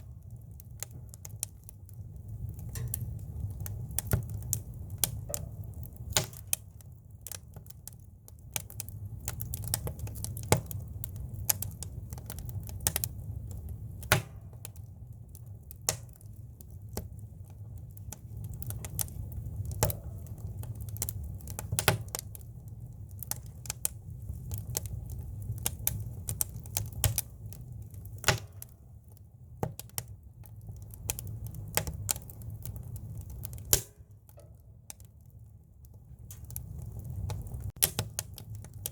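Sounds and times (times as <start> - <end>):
campfire crackling and popping: 0.0 - 38.9
low fire rumble: 0.0 - 38.9.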